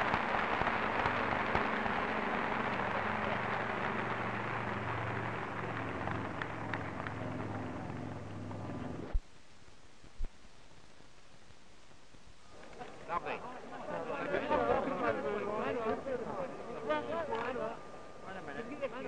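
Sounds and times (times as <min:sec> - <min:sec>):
crowd applauding: 0:00.0 - 0:09.1, 0:12.8 - 0:19.0.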